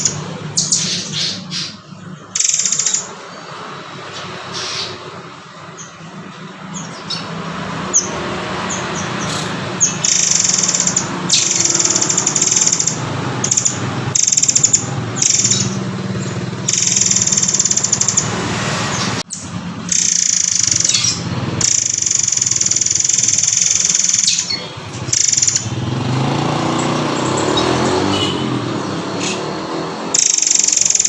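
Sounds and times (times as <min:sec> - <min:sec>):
bird chirps and high trills: 0:00.0 - 0:31.0.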